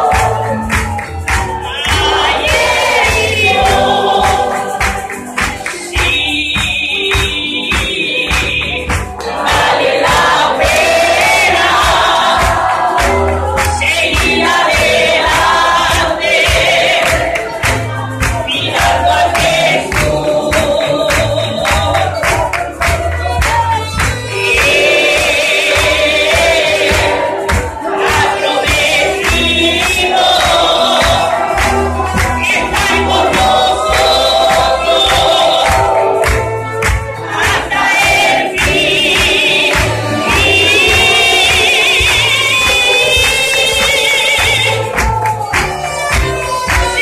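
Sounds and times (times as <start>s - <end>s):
drum strikes: 0.0s - 46.9s
band playing: 0.0s - 47.0s
bass notes: 0.0s - 47.0s
congregation singing worship song: 0.0s - 47.0s.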